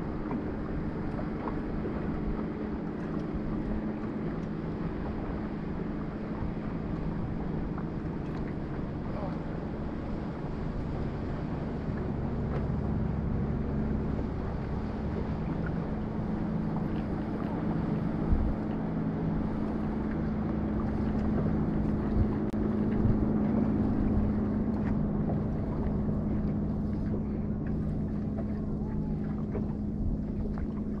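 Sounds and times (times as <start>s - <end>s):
electric trolling motor humming: 0.0s - 31.0s
water noise: 0.0s - 31.0s
wind: 0.0s - 31.0s.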